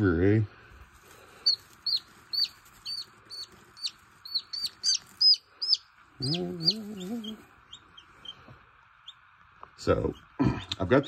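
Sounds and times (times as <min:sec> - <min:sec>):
chick peeping: 0:01.3 - 0:10.8.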